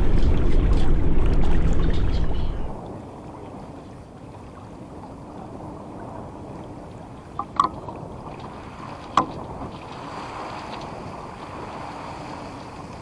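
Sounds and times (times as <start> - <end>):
water rushing past hull: 0.0 - 13.0.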